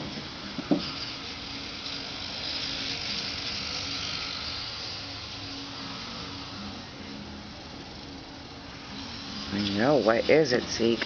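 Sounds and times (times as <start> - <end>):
steady low hum with hiss: 0.0 - 11.0.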